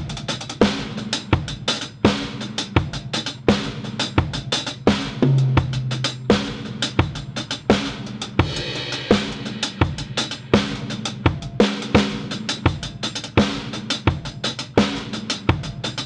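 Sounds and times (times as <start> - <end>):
drum kit beat: 0.0 - 16.0.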